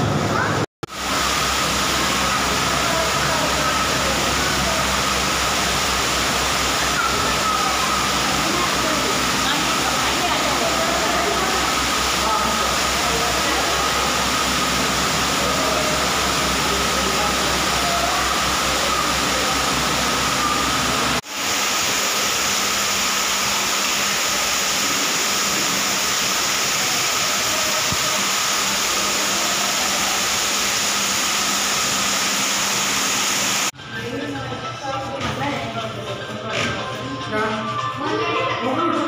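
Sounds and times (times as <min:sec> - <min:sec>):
aquarium filter water rushing: 0:00.0 - 0:33.8
faint voices: 0:01.8 - 0:21.2, 0:22.1 - 0:32.2, 0:33.7 - 0:39.0.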